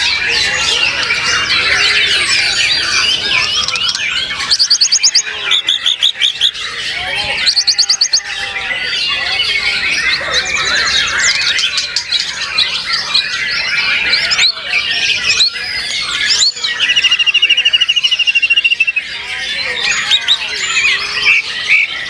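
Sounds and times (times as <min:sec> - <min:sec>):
fast even bird trill: 0:00.0 - 0:22.0
songbirds singing: 0:00.0 - 0:22.0.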